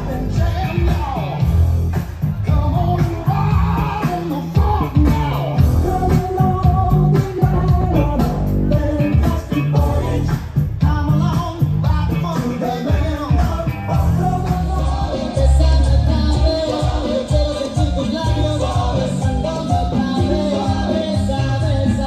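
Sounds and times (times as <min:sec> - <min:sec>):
loud dance music with singing: 0:00.0 - 0:22.0.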